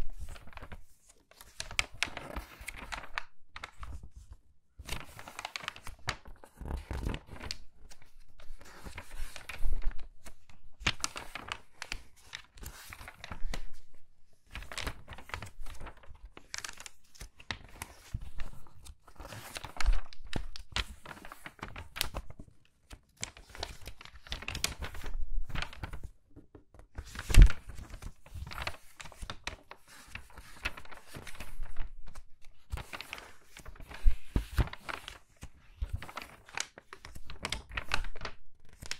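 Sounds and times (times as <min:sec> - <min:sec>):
magazine pages turning: 0:00.0 - 0:38.9.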